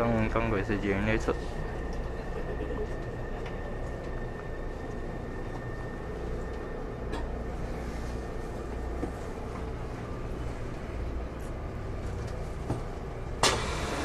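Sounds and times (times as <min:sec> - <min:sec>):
train car hum and rumble: 0:00.0 - 0:14.0.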